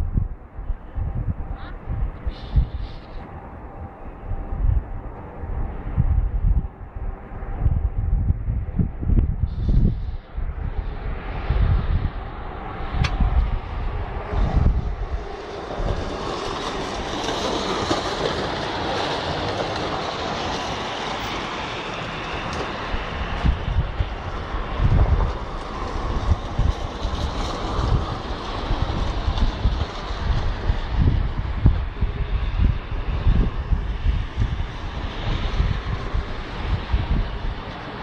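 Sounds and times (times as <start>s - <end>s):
large vehicle running: 0.0s - 38.0s
wind gusting on microphone: 0.0s - 38.0s.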